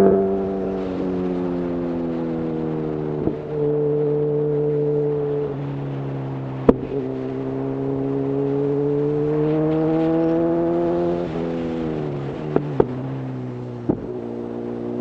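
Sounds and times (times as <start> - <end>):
wind noise: 0.0 - 15.0.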